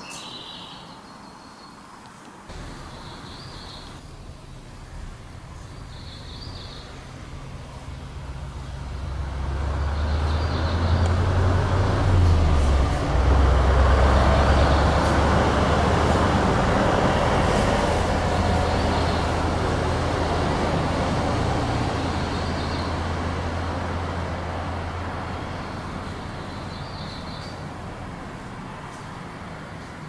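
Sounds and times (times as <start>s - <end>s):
vehicle engine and road rumble: 1.8s - 30.0s.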